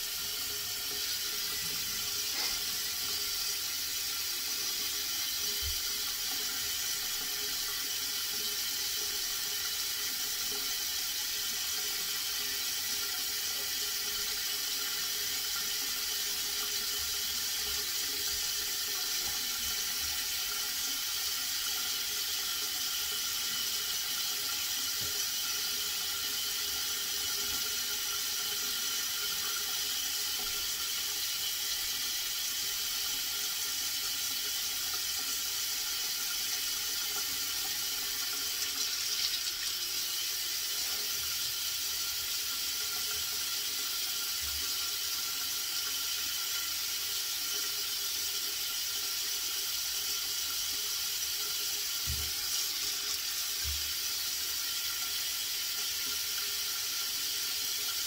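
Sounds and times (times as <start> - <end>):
water running steadily: 0.0 - 58.0.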